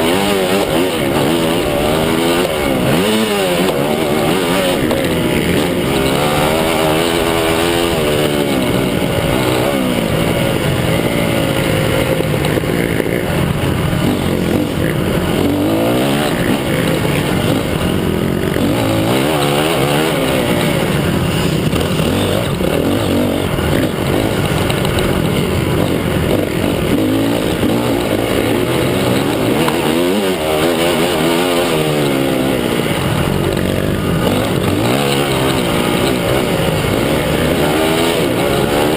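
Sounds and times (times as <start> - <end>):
motocross engines revving: 0.0 - 38.9.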